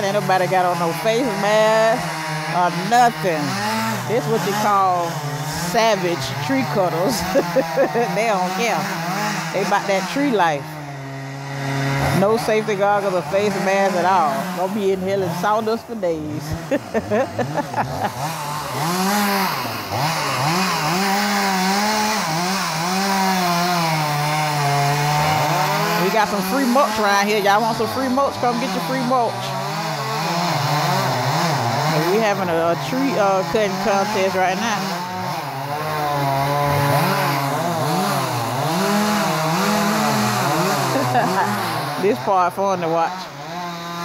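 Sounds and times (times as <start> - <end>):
chainsaw cutting wood: 0.0 - 44.0.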